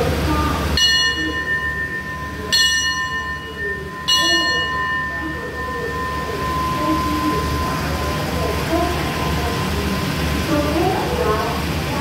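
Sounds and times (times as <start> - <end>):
station bell ringing: 0.0 - 11.6
train rumbling: 0.0 - 12.0
steady high tone: 0.8 - 11.4.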